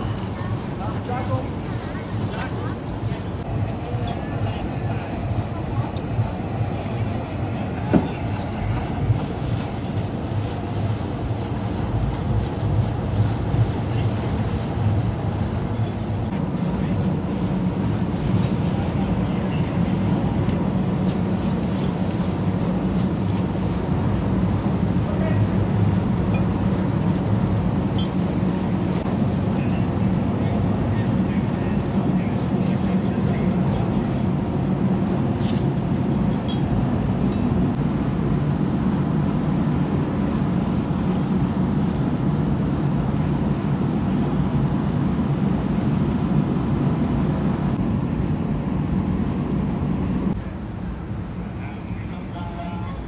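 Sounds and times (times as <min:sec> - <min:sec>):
diesel machinery rumbling: 0:00.0 - 0:53.0.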